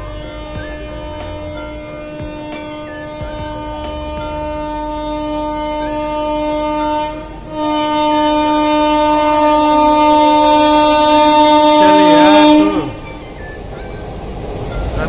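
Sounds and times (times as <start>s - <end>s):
train horn blast: 0.0s - 13.2s.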